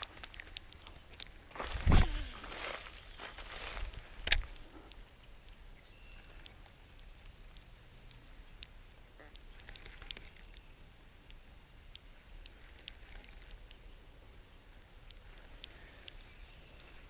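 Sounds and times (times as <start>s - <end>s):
faint ticks and light rustles: 0.0s - 17.0s.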